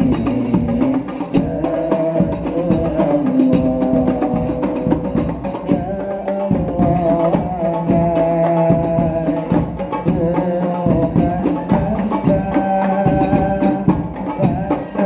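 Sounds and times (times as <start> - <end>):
frame drums beaten in rhythm: 0.0 - 15.0
voices singing together: 0.0 - 15.0.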